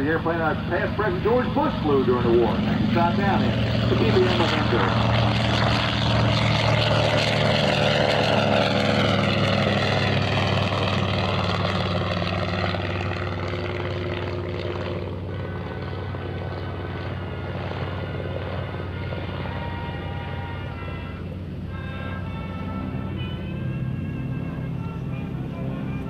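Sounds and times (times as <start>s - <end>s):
propeller plane engine taking off: 0.0s - 26.0s.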